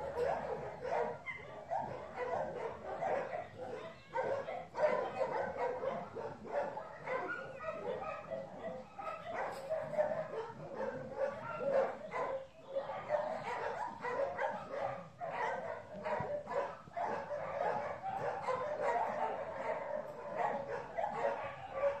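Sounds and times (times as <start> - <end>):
dogs barking and yipping: 0.0 - 22.0.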